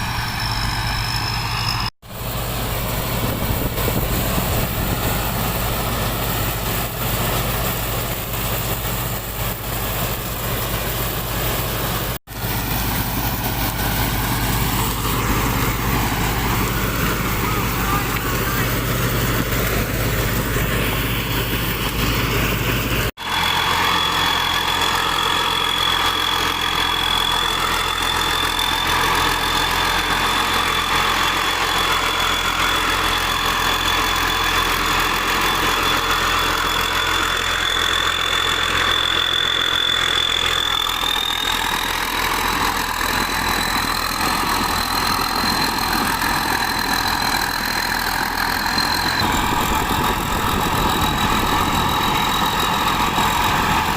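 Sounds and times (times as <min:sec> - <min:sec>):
heavy machinery engine running: 0:00.0 - 0:53.9
high-pitched whine: 0:00.0 - 0:53.9.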